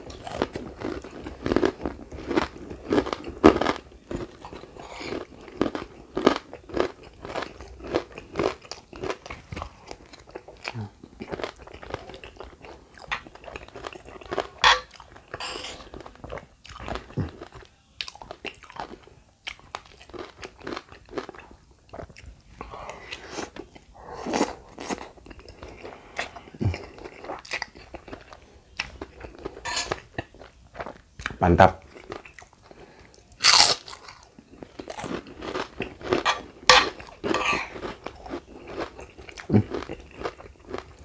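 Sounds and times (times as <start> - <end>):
close chewing and biting: 0.0 - 41.0.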